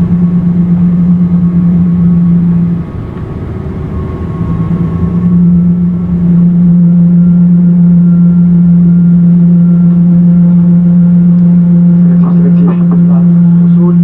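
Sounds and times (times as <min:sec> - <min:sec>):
jet engine drone: 0:00.0 - 0:14.0.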